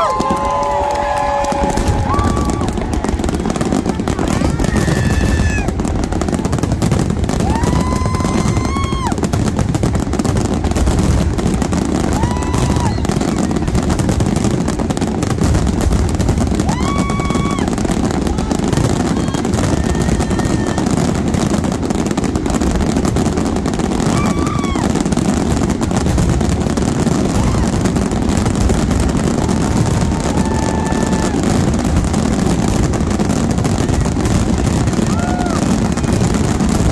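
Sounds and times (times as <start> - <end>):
fireworks bursting and crackling: 0.0 - 36.9.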